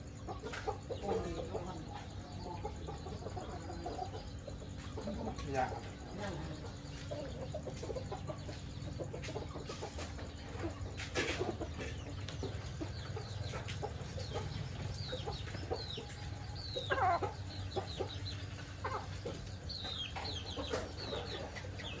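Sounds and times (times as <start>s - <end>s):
chickens clucking: 0.0s - 22.0s
chicks peeping: 0.0s - 22.0s
steady low hum: 0.0s - 22.0s.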